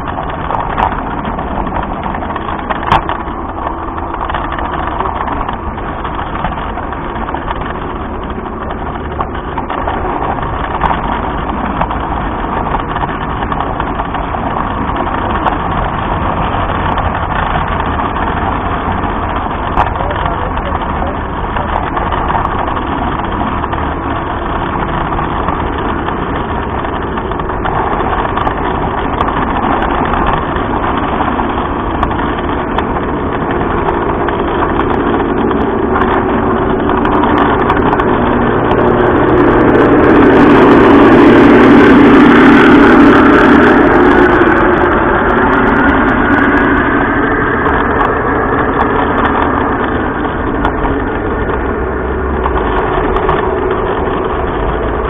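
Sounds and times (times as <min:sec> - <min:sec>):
model train running on track: 0:00.0 - 0:55.0.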